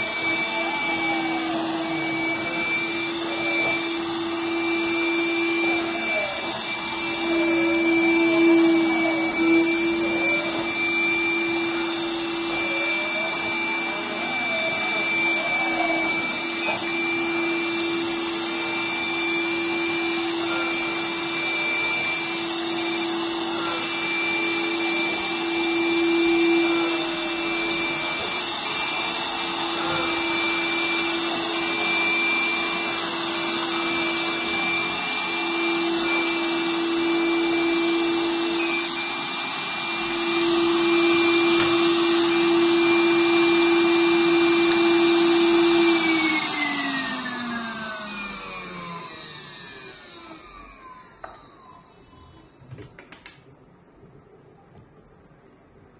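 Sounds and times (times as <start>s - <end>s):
suction fan whining: 0.0s - 53.5s.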